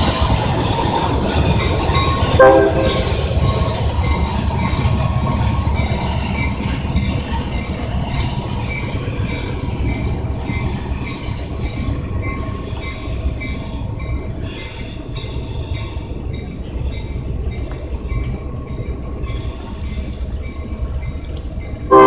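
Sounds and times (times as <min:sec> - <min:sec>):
diesel locomotive engine rumble: 0:00.0 - 0:22.0
rail noise: 0:00.0 - 0:22.0.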